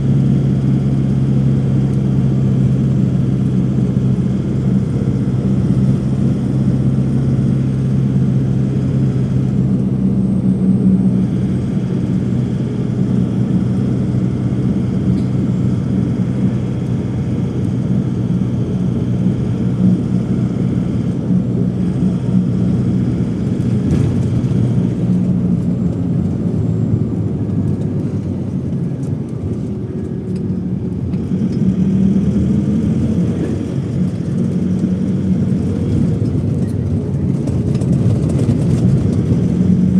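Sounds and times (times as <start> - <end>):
constant low hum: 0.0 - 39.9
vehicle engine drone: 0.0 - 39.9.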